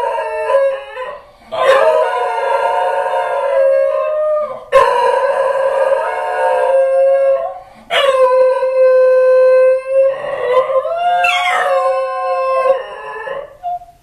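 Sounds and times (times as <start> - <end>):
dogs howling: 0.0 - 13.8.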